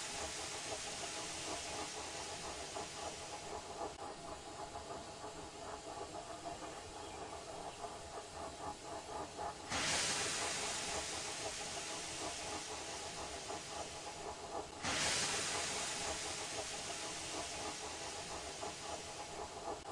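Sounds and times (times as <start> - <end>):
steam locomotive hissing: 0.0 - 19.9.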